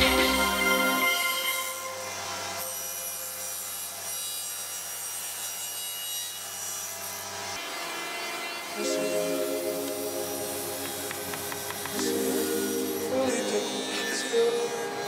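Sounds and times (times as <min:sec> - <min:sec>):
saw motor hum: 0:00.0 - 0:05.4, 0:06.3 - 0:15.0
table saw cutting wood: 0:00.0 - 0:15.0.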